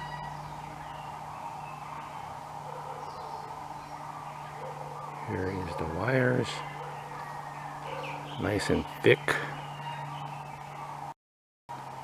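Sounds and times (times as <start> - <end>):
low background hum: 0.0 - 11.1
distant bird calls: 0.0 - 11.2.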